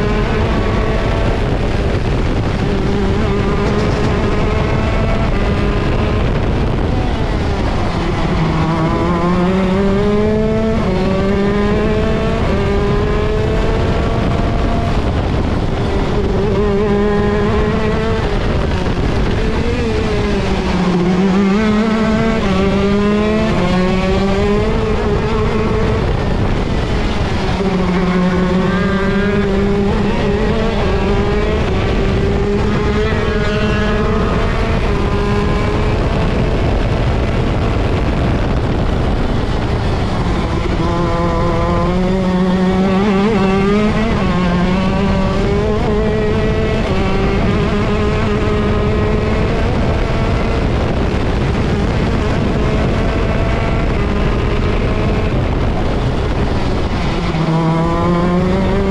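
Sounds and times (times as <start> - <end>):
kart engine at racing speed: 0.0 - 58.9.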